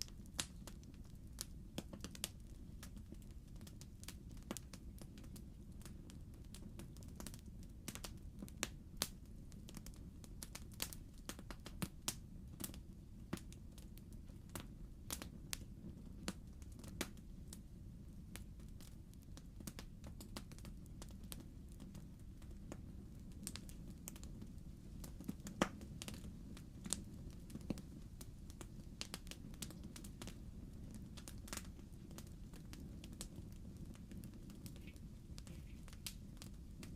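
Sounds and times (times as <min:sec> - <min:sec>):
fire crackling and popping: 0:00.0 - 0:36.9
flames rumbling: 0:00.0 - 0:36.9.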